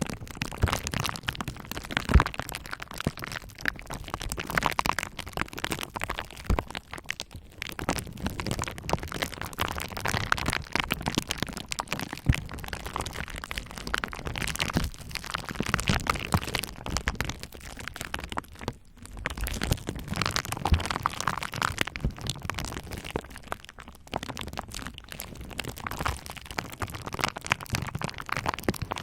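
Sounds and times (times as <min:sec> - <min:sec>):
bubble wrap popping: 0:00.0 - 0:29.0.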